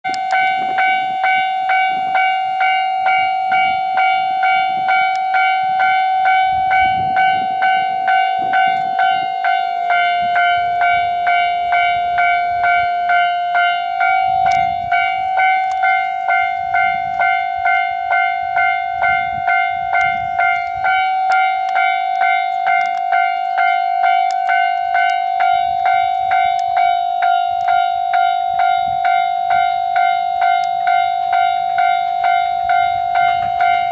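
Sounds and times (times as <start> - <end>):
electric train rumbling past: 0.1 - 33.9
level-crossing bell ringing: 0.1 - 33.9.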